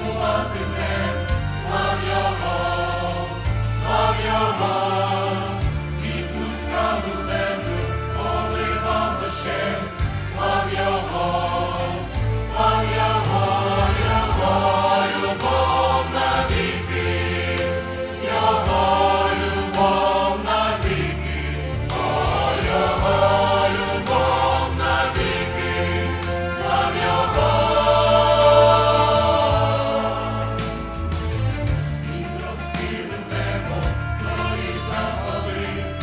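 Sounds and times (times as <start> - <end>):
choir singing a hymn: 0.0 - 36.0
low instrumental accompaniment: 0.0 - 36.0.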